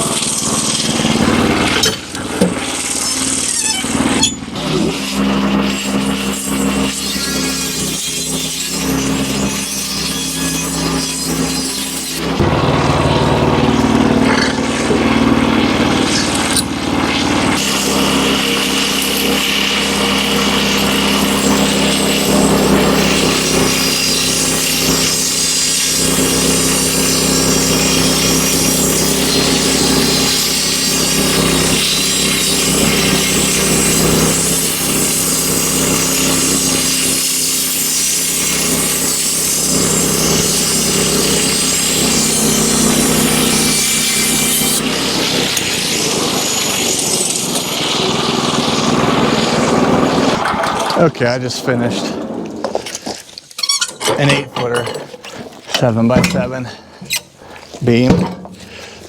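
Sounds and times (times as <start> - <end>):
band sawmill cutting wood: 0.0 - 59.0.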